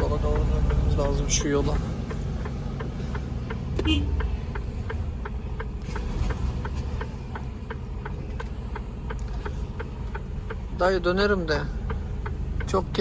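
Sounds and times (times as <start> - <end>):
diesel engine running: 0.0 - 13.0
turn signal ticking: 0.0 - 13.0.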